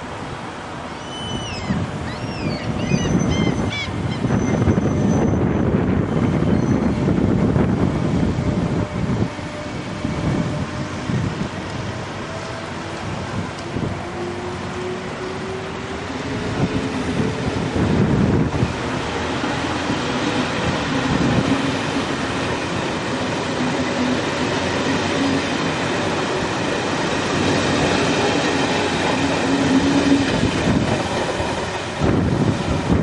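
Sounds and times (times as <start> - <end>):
train wheels rushing on rail: 0.0 - 33.0.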